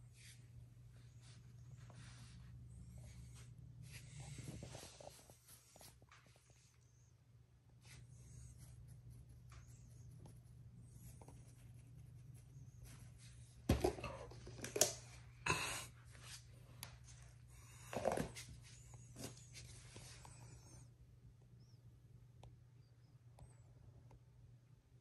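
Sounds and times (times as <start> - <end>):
faint room hum: 0.0 - 25.0.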